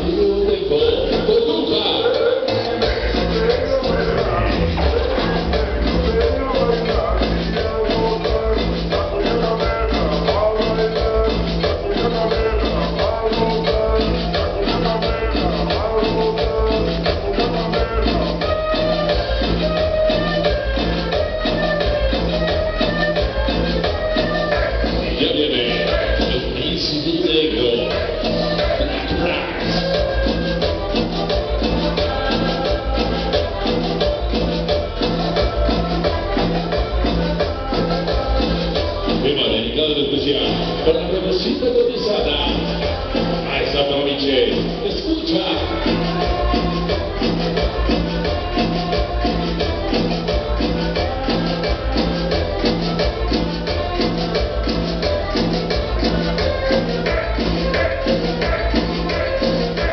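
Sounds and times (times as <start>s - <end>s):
cumbia music over sound system: 0.0s - 59.9s.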